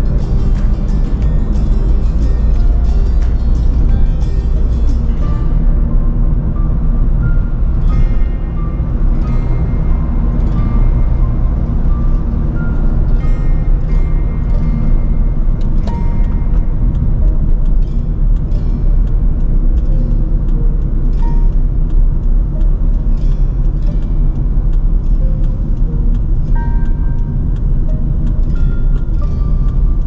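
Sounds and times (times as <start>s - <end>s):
music of plucked notes: 0.0s - 30.0s
road and engine rumble: 0.0s - 30.0s.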